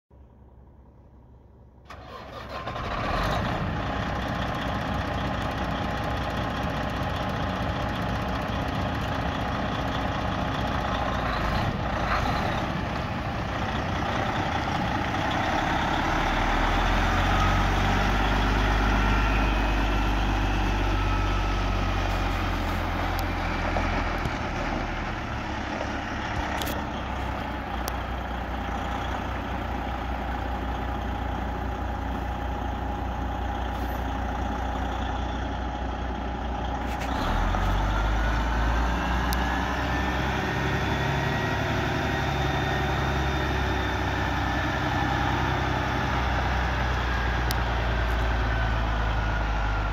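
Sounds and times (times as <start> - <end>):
truck diesel engine idling: 1.8 - 49.9.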